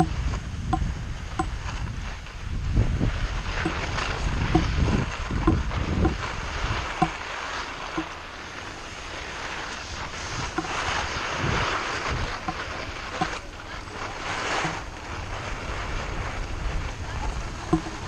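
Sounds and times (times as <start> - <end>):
skis sliding over snow: 0.0 - 18.0
wind buffeting microphone: 0.0 - 18.0.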